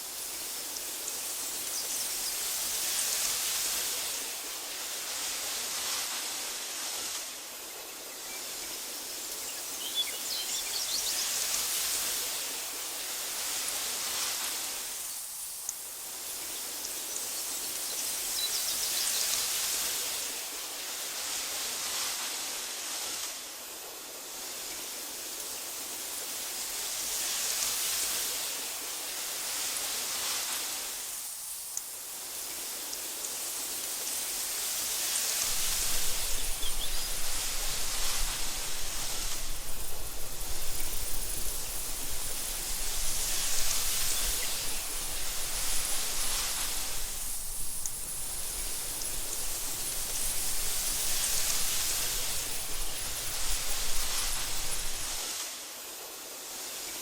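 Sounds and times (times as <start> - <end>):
wind through tall grass: 0.0 - 57.0.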